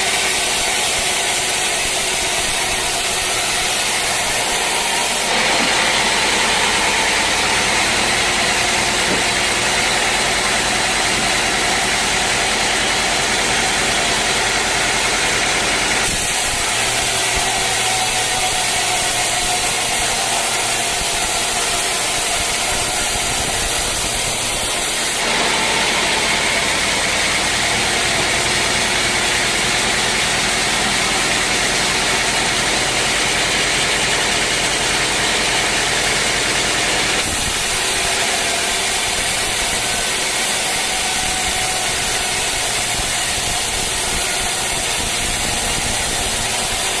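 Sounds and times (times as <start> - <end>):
sawmill engine running: 0.0 - 47.0.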